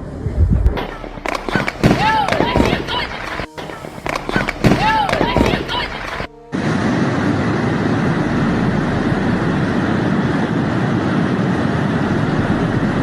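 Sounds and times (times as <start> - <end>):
floodwater rushing: 0.6 - 12.7.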